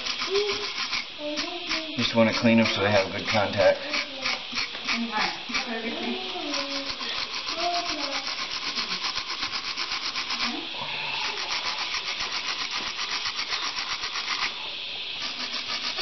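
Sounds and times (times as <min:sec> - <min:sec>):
wire brush scrubbing metal: 0:00.0 - 0:16.0.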